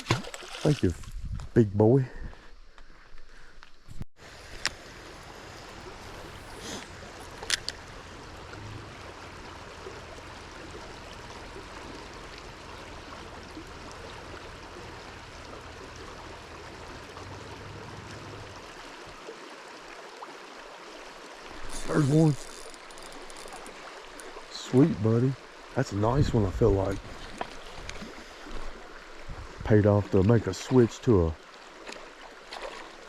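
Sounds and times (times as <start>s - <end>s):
flowing river water: 0.0s - 1.1s, 4.2s - 33.0s.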